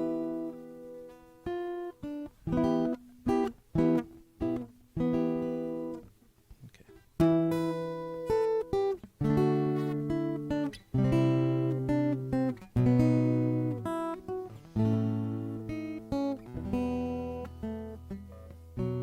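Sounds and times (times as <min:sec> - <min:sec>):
acoustic guitar chords: 0:00.0 - 0:19.0.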